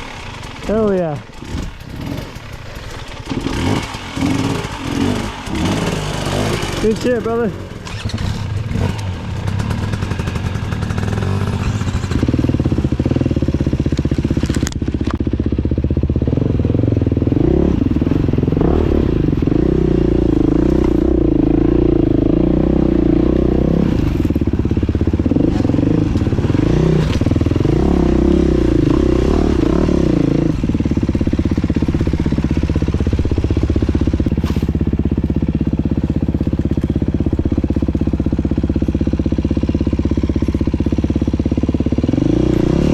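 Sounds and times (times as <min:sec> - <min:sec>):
dirt bike engine revving: 0:00.0 - 0:14.5, 0:16.2 - 0:42.9.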